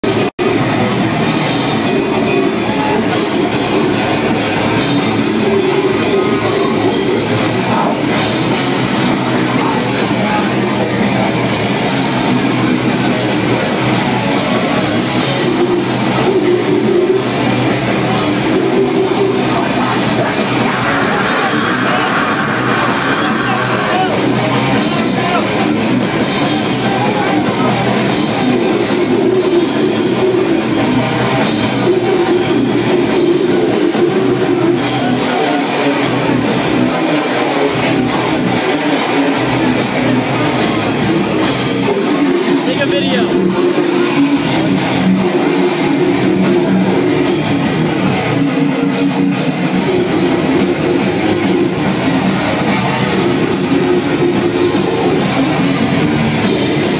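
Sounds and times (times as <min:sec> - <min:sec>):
distorted electric guitars: 0:00.0 - 0:56.9
drum kit: 0:00.0 - 0:56.9.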